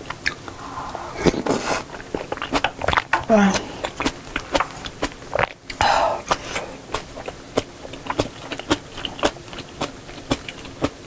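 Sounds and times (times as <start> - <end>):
wet chewing smacks: 1.2 - 11.0.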